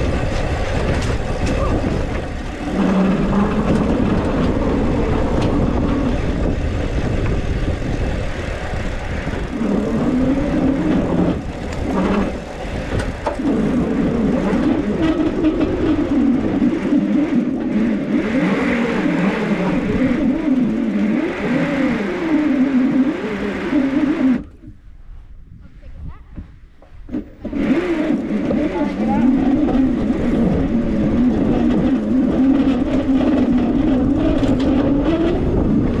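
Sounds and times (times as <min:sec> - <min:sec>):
electric bike motor whining: 0:00.0 - 0:24.6, 0:27.1 - 0:36.0
wind rumble on microphone: 0:00.0 - 0:36.0.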